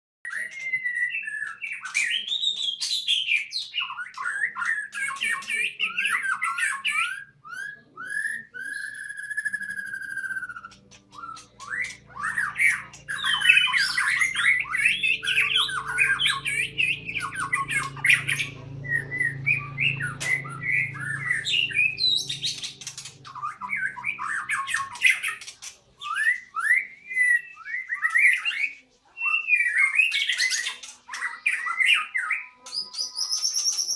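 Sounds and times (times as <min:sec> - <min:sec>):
bird singing whistled phrases: 0:00.3 - 0:33.9.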